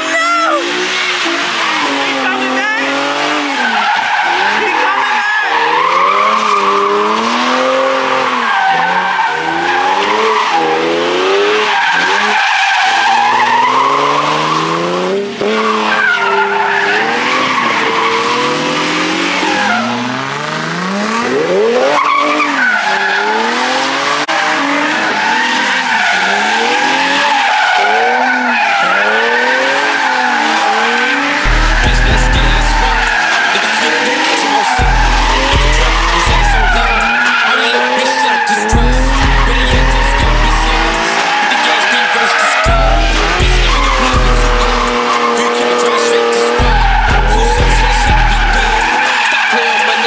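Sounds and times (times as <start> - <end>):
car engine revving: 0.0 - 50.0
tyres squealing: 0.0 - 50.0.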